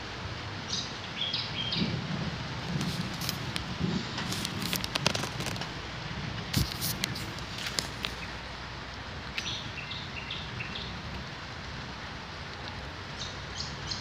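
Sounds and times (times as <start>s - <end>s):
storm hiss: 0.0s - 13.6s.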